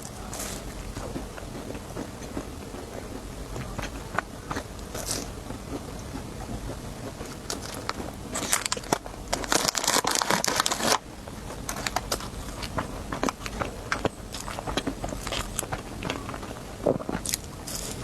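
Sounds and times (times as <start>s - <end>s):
crisp snack crunching: 0.0s - 18.0s
dense crackling: 0.0s - 18.0s.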